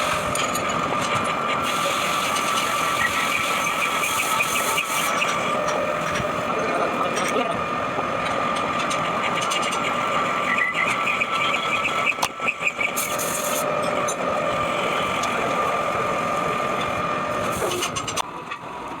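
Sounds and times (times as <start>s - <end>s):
metal lathe whining: 0.0s - 18.9s.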